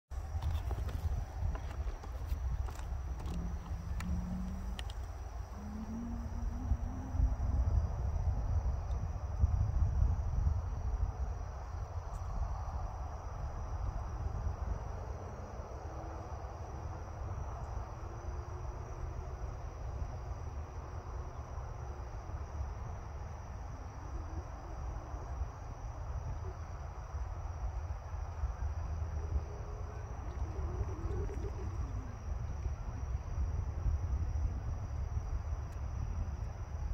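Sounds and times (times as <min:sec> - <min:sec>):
crickets chirping: 0:00.1 - 0:36.9
low rumble: 0:00.1 - 0:36.9.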